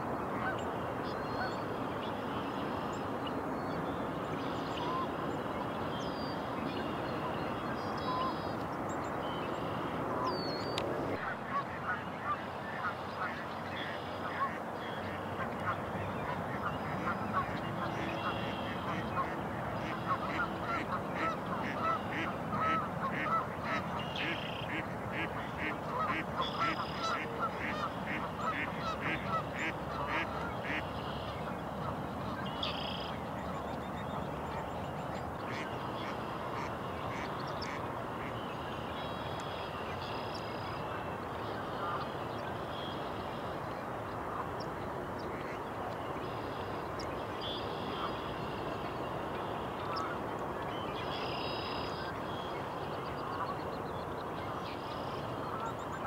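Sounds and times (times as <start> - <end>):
birds calling: 0.4 - 56.0.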